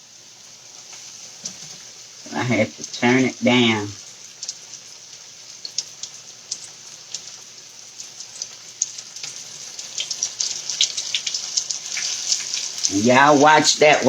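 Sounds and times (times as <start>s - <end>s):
food sizzling in a skillet: 0.0s - 14.0s
crackles and pops: 0.7s - 14.0s.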